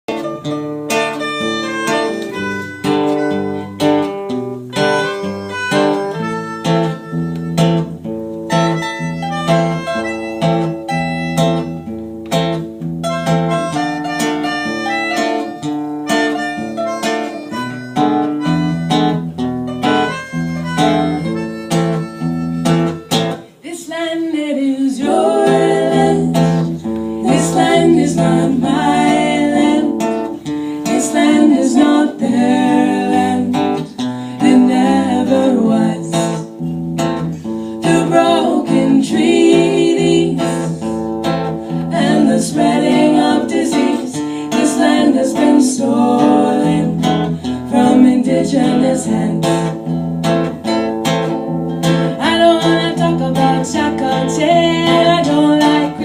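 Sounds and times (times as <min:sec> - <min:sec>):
harmonica melody: 0:00.1 - 0:23.5, 0:25.1 - 0:56.0
acoustic guitar strumming: 0:00.1 - 0:23.6, 0:25.0 - 0:56.0.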